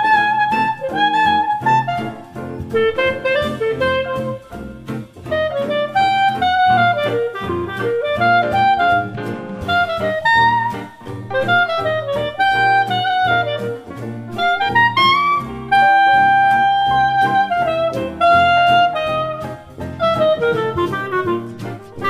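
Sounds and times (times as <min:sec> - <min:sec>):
instrumental music: 0:00.0 - 0:22.0.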